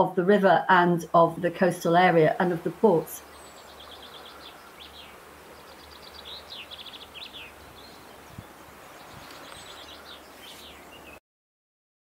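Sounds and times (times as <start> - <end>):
faint low steady hum: 0.0 - 10.3
small birds singing: 0.2 - 11.2.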